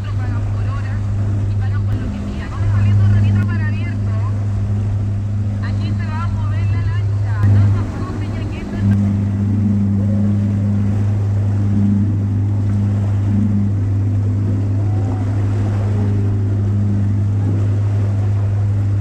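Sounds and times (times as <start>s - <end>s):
boat engine humming: 0.0s - 19.0s
water noise: 0.0s - 19.0s.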